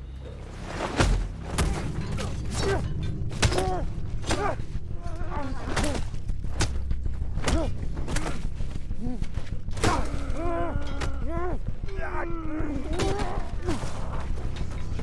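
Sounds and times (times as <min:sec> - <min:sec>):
low rumble: 0:00.0 - 0:15.0
blades clashing: 0:00.3 - 0:15.0
men grunting and crying out: 0:01.6 - 0:15.0.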